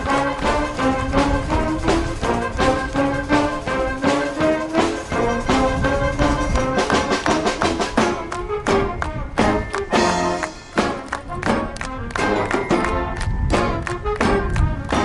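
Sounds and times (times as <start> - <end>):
brass instruments playing tune: 0.0 - 15.0
drum strokes: 0.0 - 15.0.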